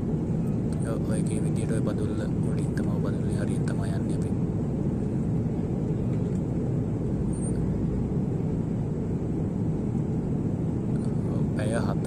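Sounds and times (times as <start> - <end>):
jet airliner cabin roar: 0.0 - 12.0.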